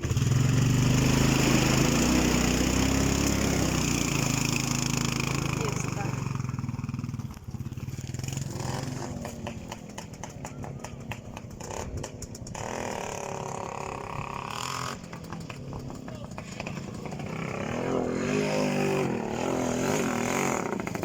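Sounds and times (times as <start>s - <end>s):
small off-road engine running: 0.0s - 21.0s.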